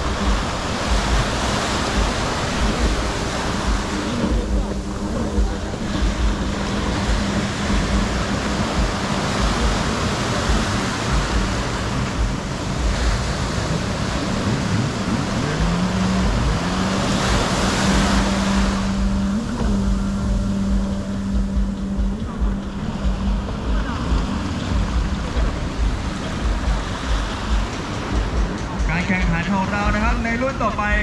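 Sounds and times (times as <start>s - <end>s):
wind buffeting microphone: 0.0s - 30.2s
jet ski engine idling: 0.0s - 31.0s
surf breaking in shallows: 0.0s - 31.0s.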